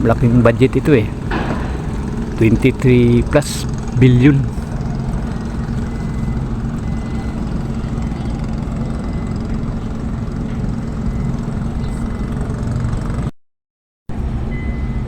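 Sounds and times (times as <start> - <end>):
engine idling: 0.0 - 13.3.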